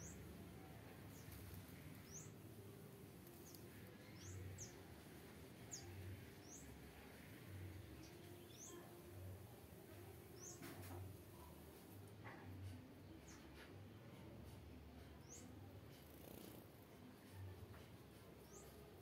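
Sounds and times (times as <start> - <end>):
small birds chirping: 0.0 - 11.8, 15.0 - 19.0.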